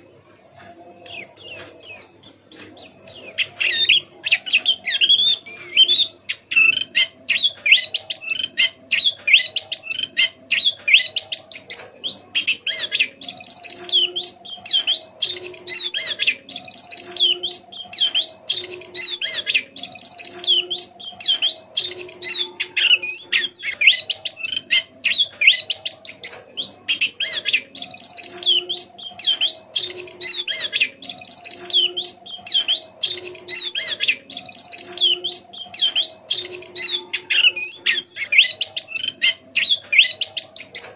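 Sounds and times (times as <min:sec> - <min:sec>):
lower bird call: 0:00.9 - 0:40.9
bird twittering: 0:01.0 - 0:40.9.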